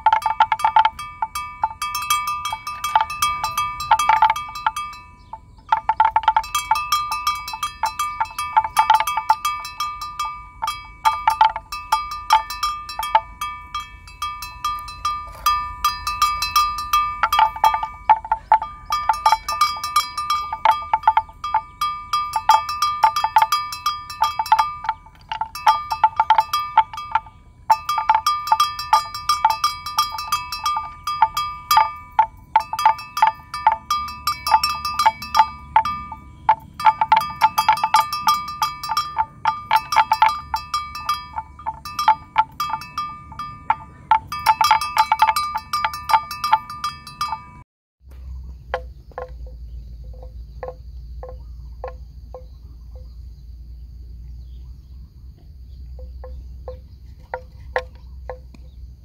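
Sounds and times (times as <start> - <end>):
animal bells clanking: 0.0 - 59.0.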